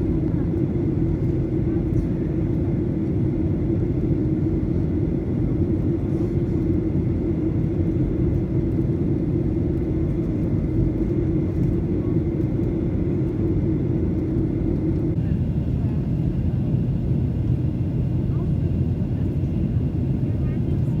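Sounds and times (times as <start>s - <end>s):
jet cabin drone: 0.0s - 21.0s.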